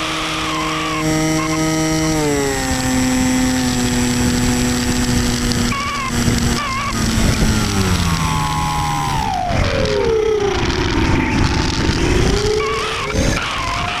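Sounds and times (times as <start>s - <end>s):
electric motor and propeller whine: 0.0s - 14.0s
wind rush: 2.4s - 14.0s.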